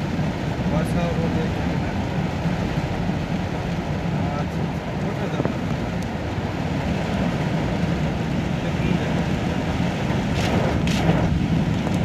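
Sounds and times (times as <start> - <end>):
heavy rain: 0.0 - 12.0
wind on microphone: 2.1 - 12.0.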